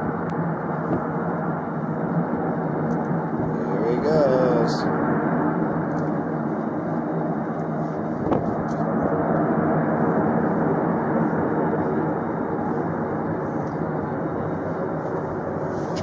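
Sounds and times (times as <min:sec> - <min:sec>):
aircraft engine drone: 0:00.0 - 0:16.0.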